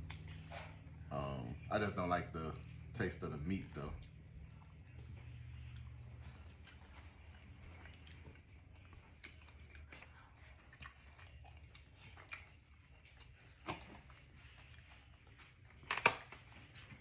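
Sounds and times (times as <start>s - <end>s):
chewing with mouth clicks: 0.0s - 1.0s, 3.7s - 17.0s.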